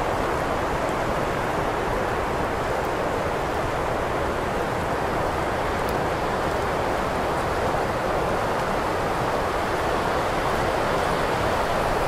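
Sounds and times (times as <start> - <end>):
wind blowing steadily: 0.0 - 12.0.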